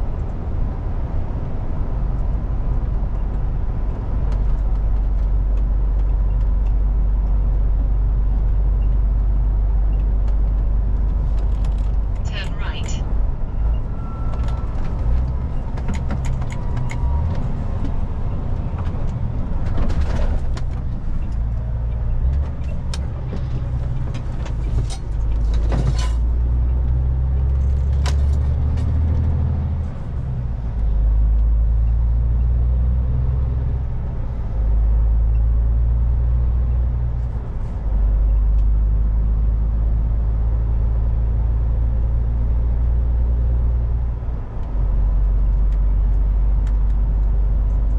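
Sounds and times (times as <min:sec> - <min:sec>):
road noise: 0:00.0 - 0:47.9
truck diesel engine driving: 0:00.0 - 0:47.9.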